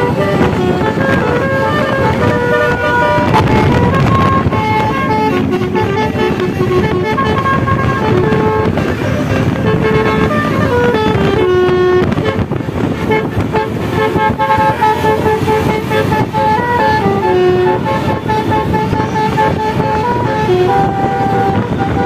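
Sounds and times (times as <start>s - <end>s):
melody horn playing a tune: 0.0s - 22.0s
road traffic noise: 0.0s - 22.0s.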